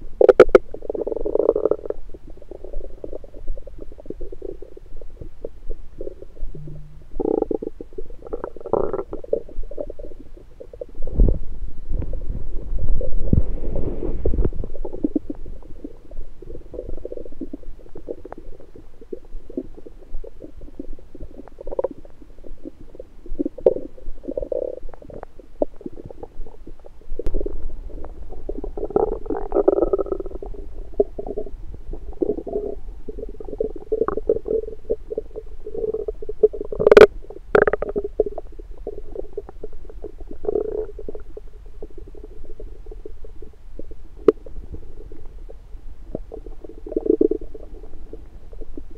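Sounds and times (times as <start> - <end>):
low steady hum: 0.0 - 48.9
stomach gurgling: 0.0 - 48.9.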